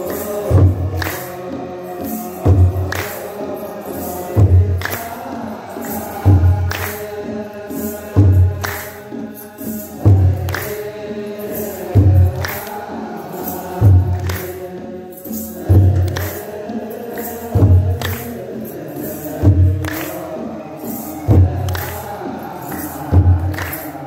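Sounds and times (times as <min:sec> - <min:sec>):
drum beating slowly: 0:00.0 - 0:24.0
group chanting: 0:00.0 - 0:24.0.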